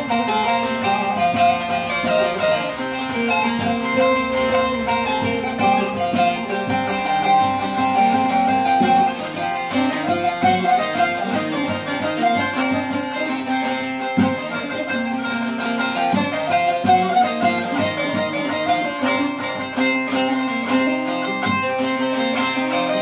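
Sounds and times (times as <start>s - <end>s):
bright long-necked lute: 0.0s - 23.0s
plucked lute melody: 0.0s - 23.0s.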